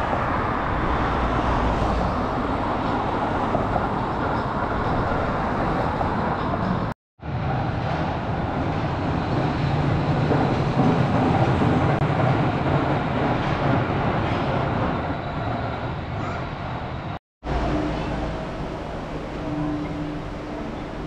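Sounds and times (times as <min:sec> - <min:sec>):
suspended train rumbling: 0:00.0 - 0:21.0.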